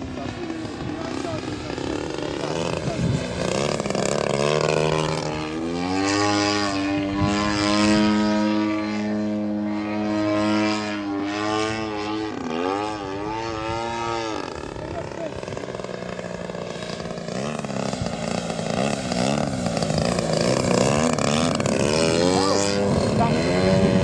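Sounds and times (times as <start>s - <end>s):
model plane engine overhead: 0.0s - 24.0s.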